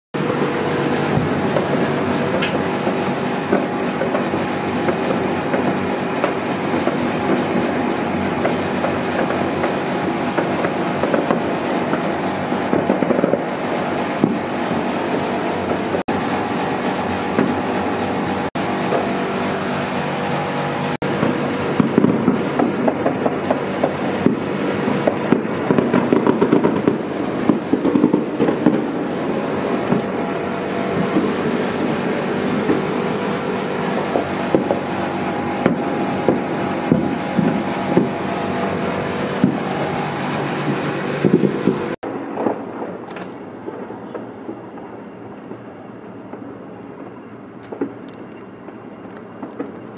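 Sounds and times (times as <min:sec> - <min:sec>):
firework bangs: 0:00.2 - 0:49.9
fireworks crackling: 0:00.2 - 0:49.9.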